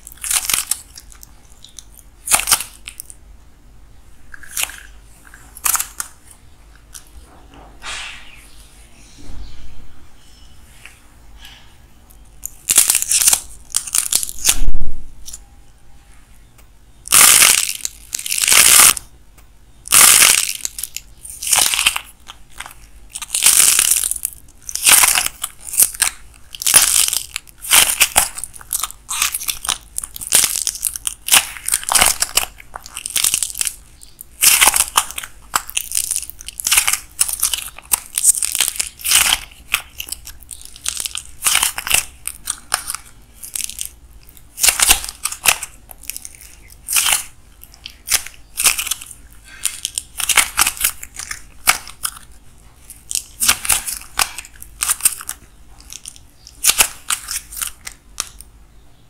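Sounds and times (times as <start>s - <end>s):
dry clay crunching and crackling: 0.0s - 3.2s, 4.3s - 7.1s, 11.5s - 15.4s, 17.0s - 19.1s, 19.8s - 58.5s.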